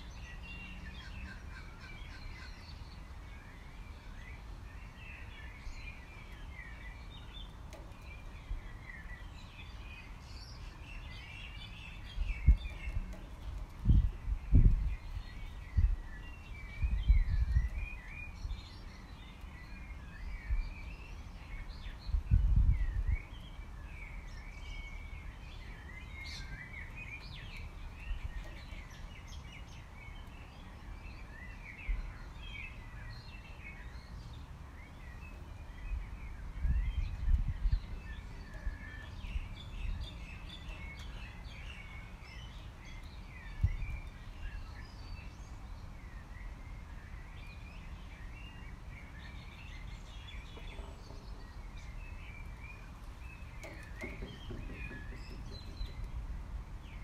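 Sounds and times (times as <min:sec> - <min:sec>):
outdoor background noise: 0:00.0 - 0:57.0
small birds chirping: 0:00.0 - 0:57.0.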